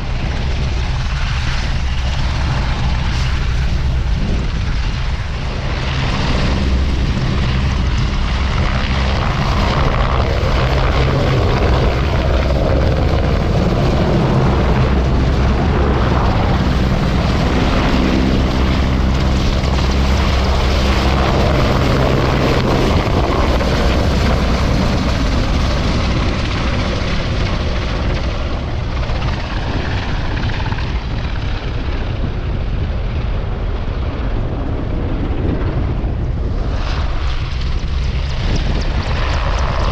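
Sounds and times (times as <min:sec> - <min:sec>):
aircraft engine drone: 0:00.0 - 0:39.9
wind buffeting microphone: 0:00.0 - 0:39.9.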